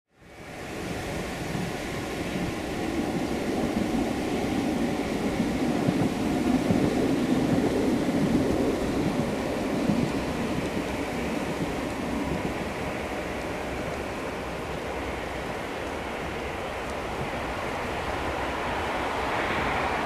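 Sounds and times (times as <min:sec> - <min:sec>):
tram running on rails: 0:00.1 - 0:20.0.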